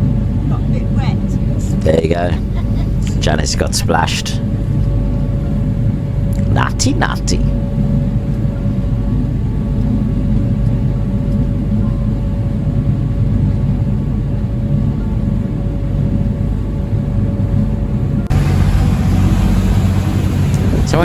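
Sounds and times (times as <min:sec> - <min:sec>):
faint steady whine: 0:00.0 - 0:21.0
ferry engine drone: 0:00.0 - 0:21.0.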